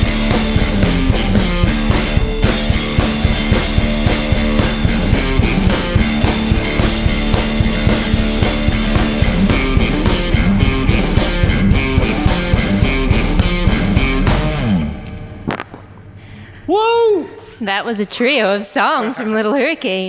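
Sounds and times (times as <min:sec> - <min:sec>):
drum kit beat: 0:00.0 - 0:16.4
electric guitar chords: 0:00.0 - 0:16.7.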